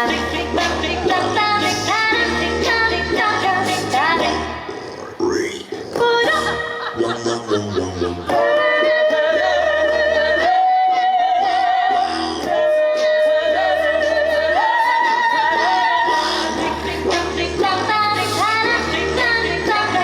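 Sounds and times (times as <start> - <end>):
low bass voices singing: 0.0 - 20.0.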